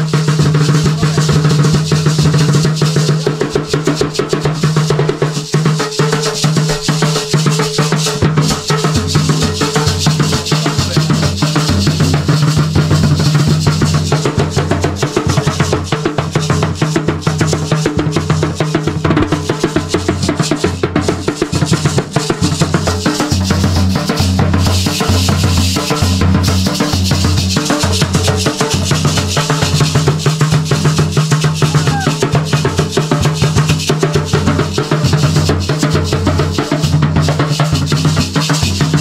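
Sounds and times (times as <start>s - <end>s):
hand drums playing fast rhythm: 0.0s - 39.0s.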